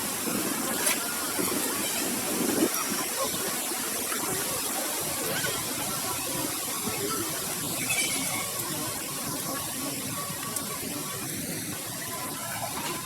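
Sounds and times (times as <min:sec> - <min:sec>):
strong wind through trees: 0:00.0 - 0:13.0.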